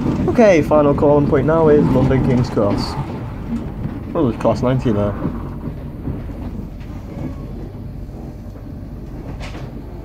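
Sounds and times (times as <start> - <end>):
train coach rumbling on rails: 0.0 - 10.0.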